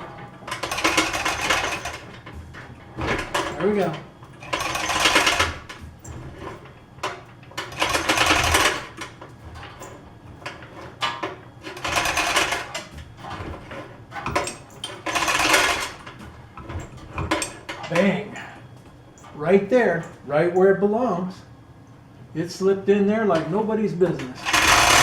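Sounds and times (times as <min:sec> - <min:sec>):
metallic rattling and scraping: 0:00.0 - 0:20.2, 0:24.4 - 0:25.0.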